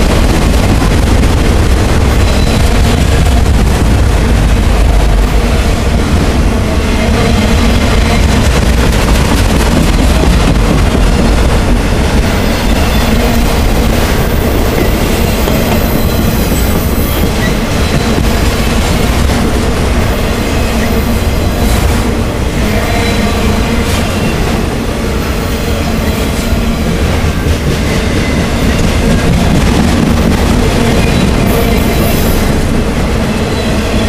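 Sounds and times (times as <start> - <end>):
freight train wheels rumbling on rails: 0.0 - 34.0.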